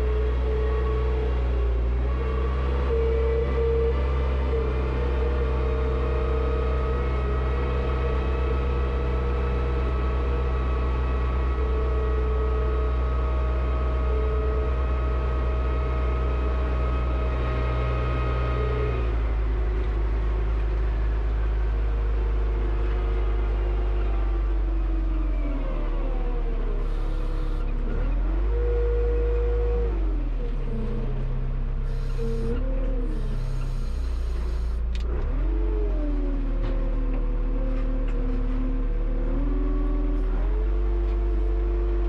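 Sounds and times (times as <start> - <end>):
diesel tractor engine rumbling: 0.0 - 42.0.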